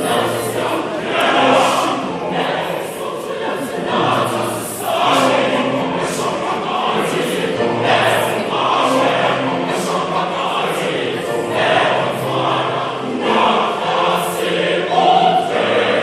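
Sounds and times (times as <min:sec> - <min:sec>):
choir singing gospel: 0:00.0 - 0:16.0.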